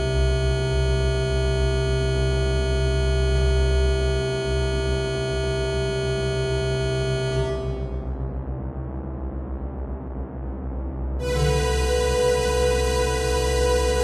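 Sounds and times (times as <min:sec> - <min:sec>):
buzzing electronic drone chord: 0:00.0 - 0:08.5, 0:11.2 - 0:14.0
deep low hum: 0:00.0 - 0:14.0.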